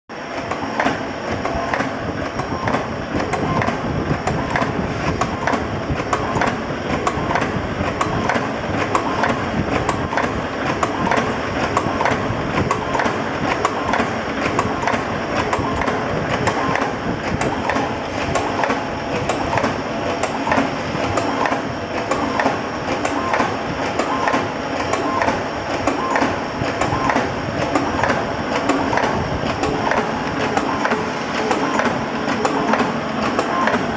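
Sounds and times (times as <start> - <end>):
machine clattering: 0.3 - 33.9.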